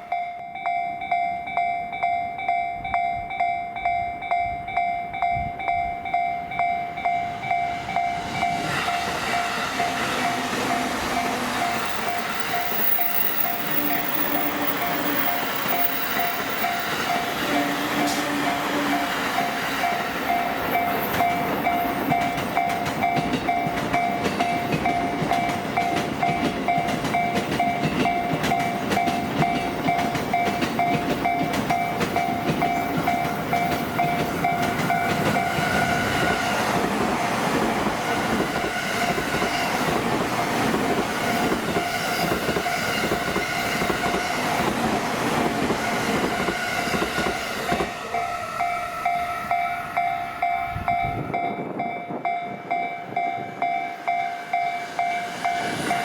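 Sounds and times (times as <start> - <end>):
crossing warning bell ringing: 0.0 - 36.8, 45.9 - 56.0
train wheels clattering on rails: 4.2 - 49.7.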